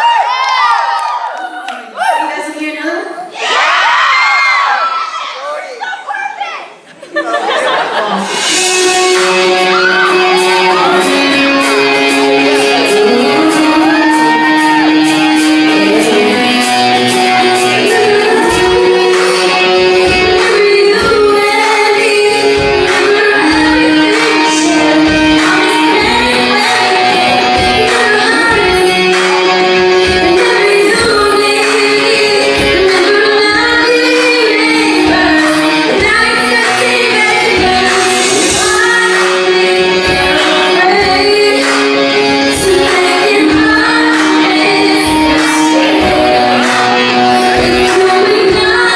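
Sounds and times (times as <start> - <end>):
guitar: 7.6 - 48.9
live band music: 7.6 - 48.9
held instrumental notes: 8.0 - 48.9
person singing: 8.0 - 48.9.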